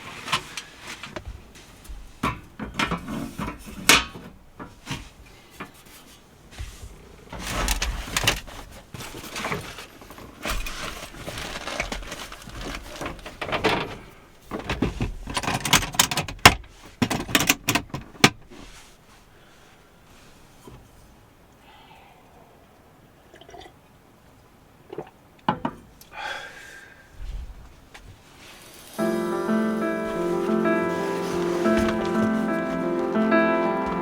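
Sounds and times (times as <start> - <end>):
rustling: 0.0 - 22.8, 27.1 - 34.0.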